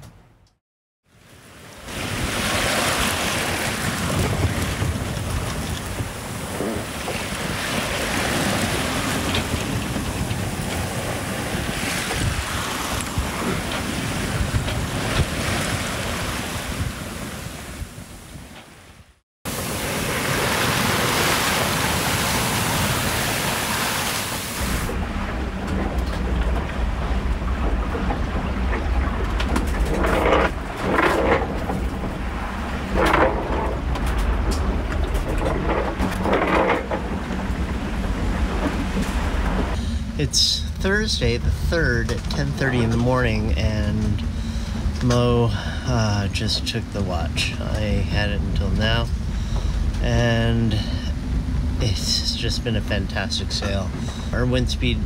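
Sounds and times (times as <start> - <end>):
low sea rumble: 1.1 - 55.0
waves rushing along a hull: 1.1 - 55.0
wind buffeting microphone: 1.9 - 55.0.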